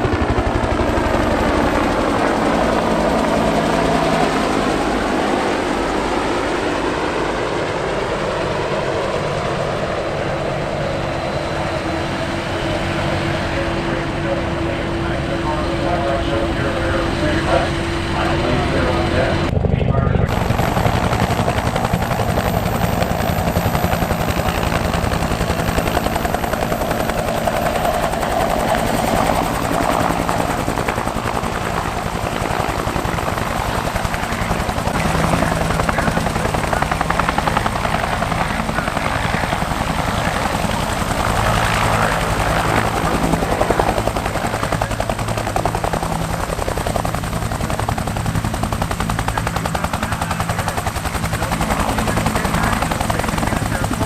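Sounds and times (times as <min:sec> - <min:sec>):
helicopter rotor blades chopping: 0:00.0 - 0:54.0
helicopter turbine running: 0:00.0 - 0:54.0.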